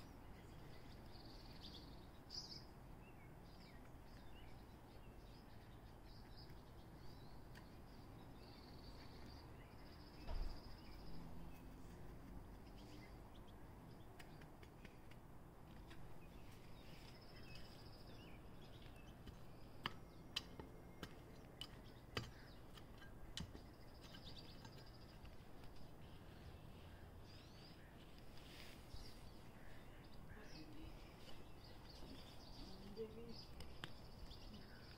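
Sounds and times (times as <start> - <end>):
faint birds chirping: 0.0 - 34.9.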